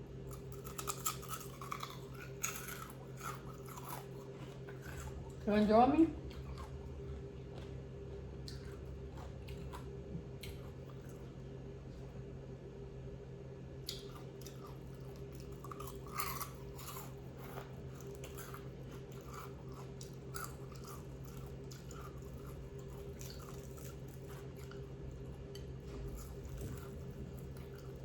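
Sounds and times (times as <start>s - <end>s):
chewing crispy fried chicken: 0.0s - 12.3s, 13.8s - 28.0s
steady low hum: 0.0s - 28.0s.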